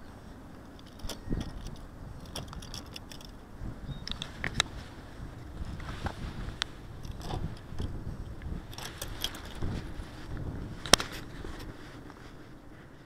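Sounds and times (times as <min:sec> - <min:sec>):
light jingling: 0:00.0 - 0:12.3
camera handling rumble: 0:00.5 - 0:13.0.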